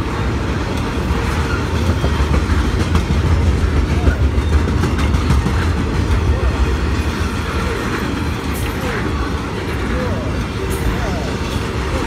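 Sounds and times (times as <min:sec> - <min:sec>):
steel wheels rumbling on track: 0:00.0 - 0:12.0
wheels clicking over rail joints: 0:00.0 - 0:12.0.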